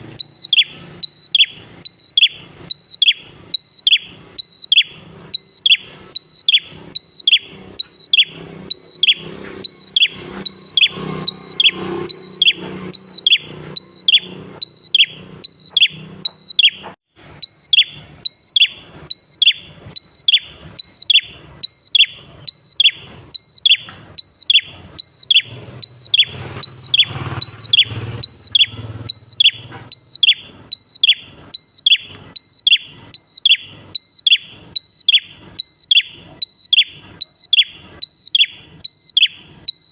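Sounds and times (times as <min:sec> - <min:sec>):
bird calling falling whistle: 0:00.2 - 0:39.9.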